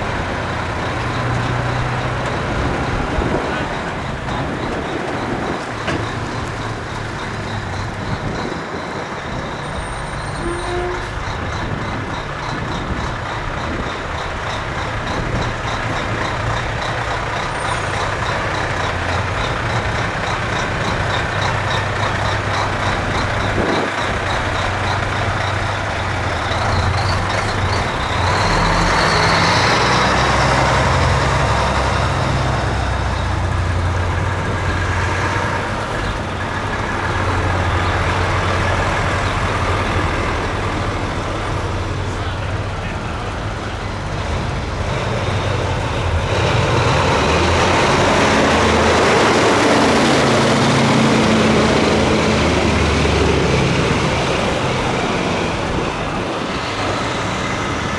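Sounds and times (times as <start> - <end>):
heavy truck diesel engines: 0.0 - 57.9
road noise: 0.0 - 57.9.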